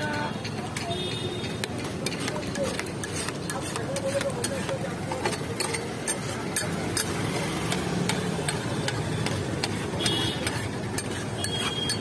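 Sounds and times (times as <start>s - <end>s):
metal spatula scraping a griddle: 1.7s - 12.0s.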